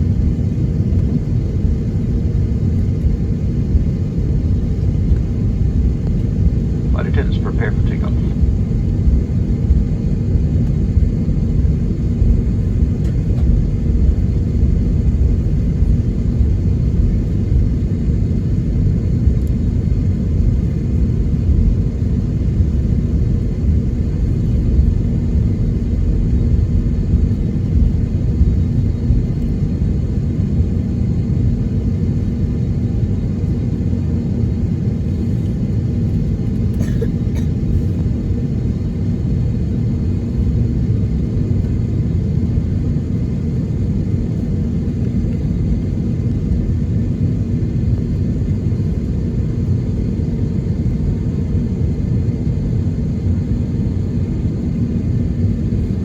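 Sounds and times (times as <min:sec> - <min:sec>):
aircraft engines rumbling: 0:00.0 - 0:56.0.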